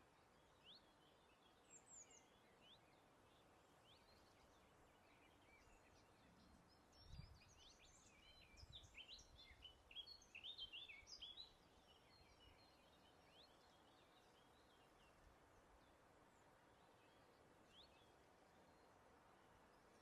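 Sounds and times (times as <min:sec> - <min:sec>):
soft low breeze: 0:00.0 - 0:20.0
songbird singing: 0:00.0 - 0:20.0.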